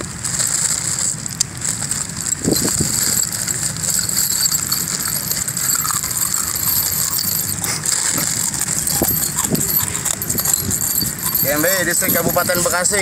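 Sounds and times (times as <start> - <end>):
plastic bag rustling: 0.6 - 13.0
iron nails rattling and clinking: 2.1 - 13.0.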